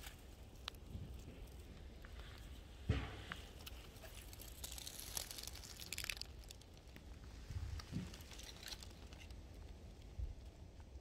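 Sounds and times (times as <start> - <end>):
dry leaves and reeds rustling: 0.0 - 11.0.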